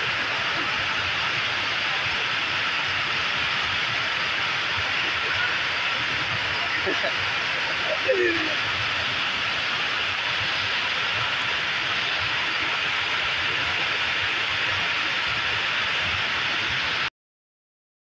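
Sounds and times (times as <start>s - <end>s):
heavy rain pouring: 0.0s - 17.1s.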